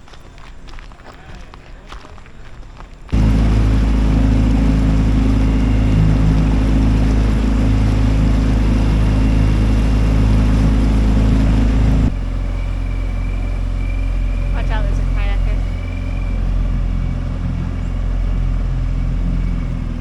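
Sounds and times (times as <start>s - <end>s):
outboard motor running: 3.1s - 20.0s.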